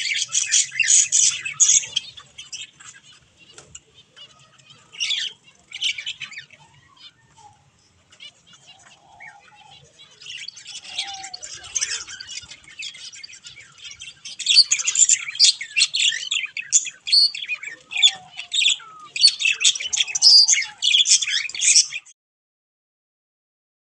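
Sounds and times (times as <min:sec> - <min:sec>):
budgerigars chirping and squawking: 0:00.0 - 0:22.1.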